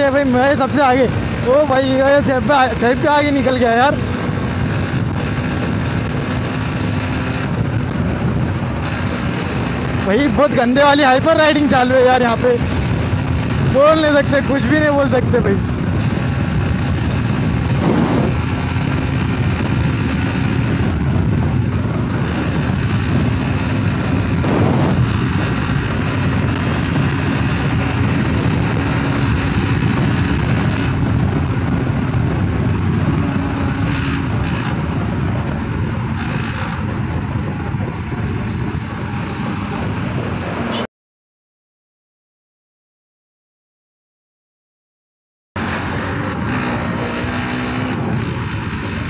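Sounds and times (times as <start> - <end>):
motorcycle engine running: 0.0 - 40.9, 45.6 - 49.0
wind rushing over microphone: 0.0 - 40.9, 45.6 - 49.0.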